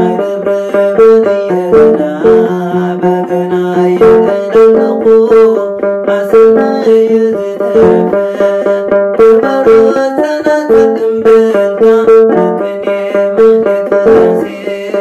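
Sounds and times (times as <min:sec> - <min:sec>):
box lyre plucked: 0:00.0 - 0:15.0.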